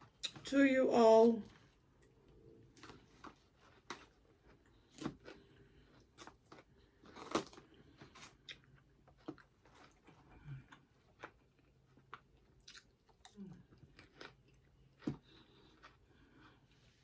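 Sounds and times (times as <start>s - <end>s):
person chewing crunchy food: 2.7s - 16.8s.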